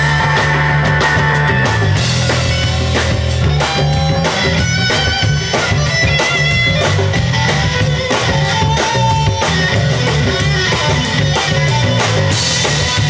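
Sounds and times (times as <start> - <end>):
bass guitar: 0.0 - 13.0
drums: 0.0 - 13.0
electric guitar lead: 0.0 - 13.0.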